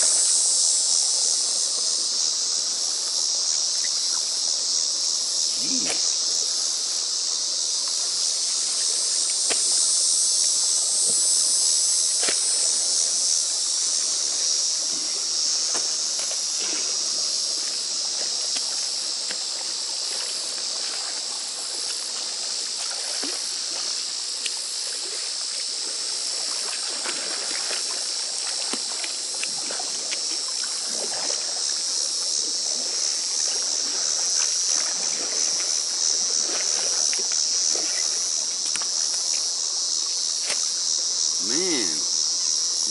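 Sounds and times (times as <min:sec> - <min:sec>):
insects chorus: 0:00.0 - 0:42.9
pond water splashing and trickling: 0:00.0 - 0:42.9.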